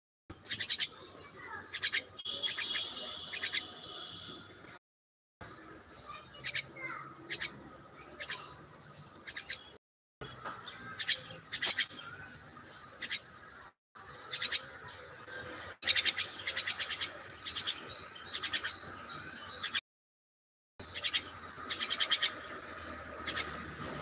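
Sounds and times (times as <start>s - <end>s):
myna chirping: 0.3s - 3.8s, 5.9s - 13.4s, 14.0s - 19.8s, 20.8s - 23.6s.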